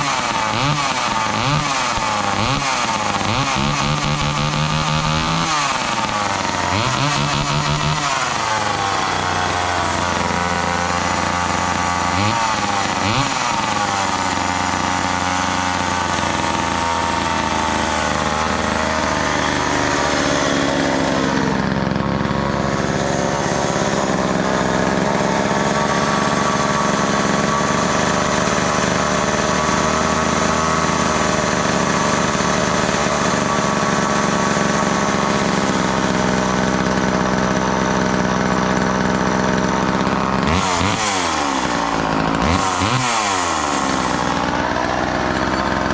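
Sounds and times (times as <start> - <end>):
chainsaw engine running: 0.0 - 45.9.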